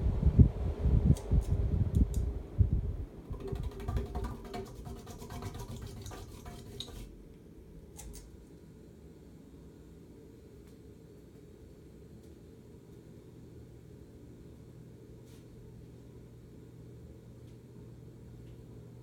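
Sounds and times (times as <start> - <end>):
ceiling fan air rumbling: 0.0 - 19.0
fan motor hum: 0.0 - 19.0.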